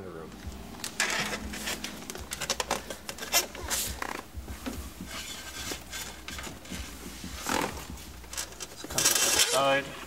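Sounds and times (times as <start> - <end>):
rustling and scraping: 0.8 - 10.0.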